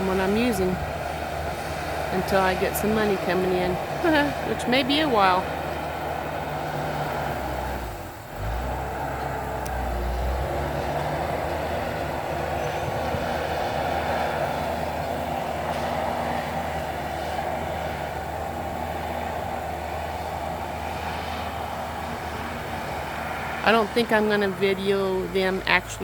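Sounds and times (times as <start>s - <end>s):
bulldozer engine rumbling: 0.0s - 26.0s.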